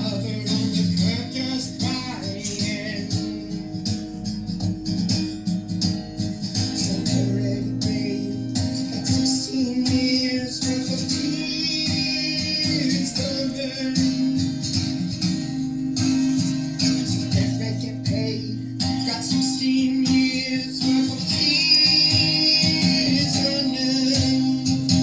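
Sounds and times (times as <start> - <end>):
young man singing: 0.0 - 4.0, 6.5 - 25.0.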